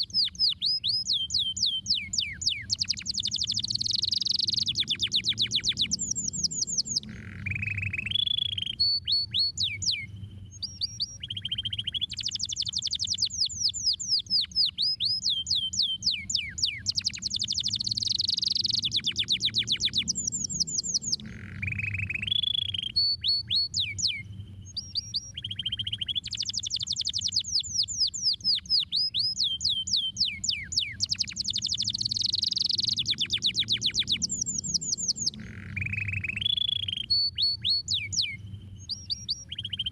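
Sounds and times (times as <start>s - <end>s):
canary singing trills: 0.0s - 39.9s
low background hum: 0.0s - 39.9s.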